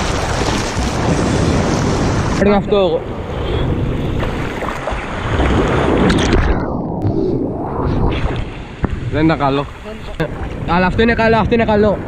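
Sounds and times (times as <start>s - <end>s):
breaking wave rushing and splashing: 0.0s - 12.0s.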